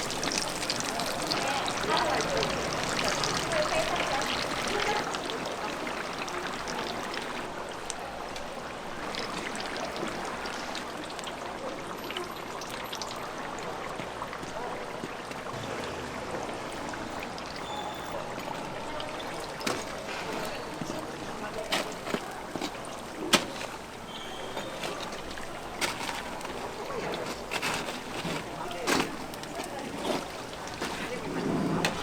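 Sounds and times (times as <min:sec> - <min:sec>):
food deep-frying in hot oil: 0:00.0 - 0:32.0.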